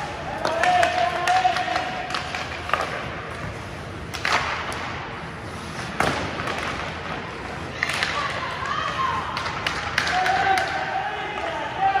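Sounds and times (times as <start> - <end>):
hockey sticks and puck knocking: 0.0 - 5.1, 5.7 - 11.6.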